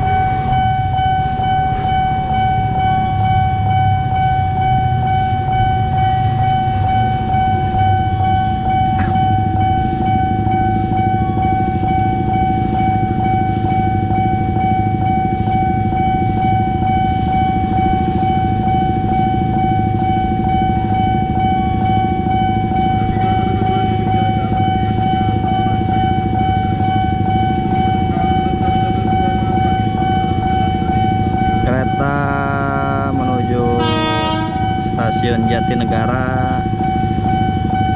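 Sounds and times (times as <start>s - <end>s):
level crossing alarm tone: 0.0s - 37.9s
low traffic rumble: 0.0s - 37.9s.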